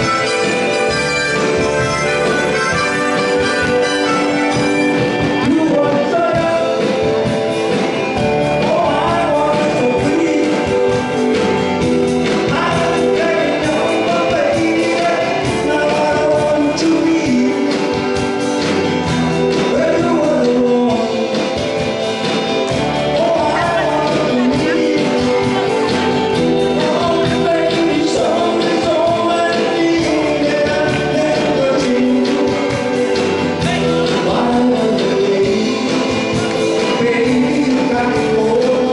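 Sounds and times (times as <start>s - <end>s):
acoustic guitar: 0.0s - 38.9s
backing music: 0.0s - 38.9s
person singing: 0.0s - 38.9s.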